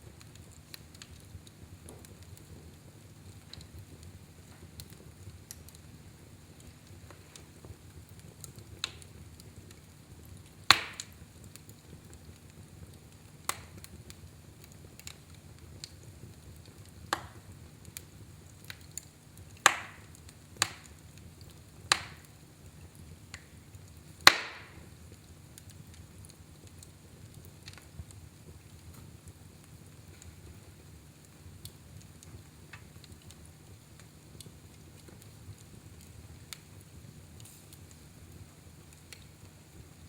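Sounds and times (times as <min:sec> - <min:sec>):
fire crackling and popping: 0:00.0 - 0:40.0
low fire rumble: 0:00.0 - 0:40.0.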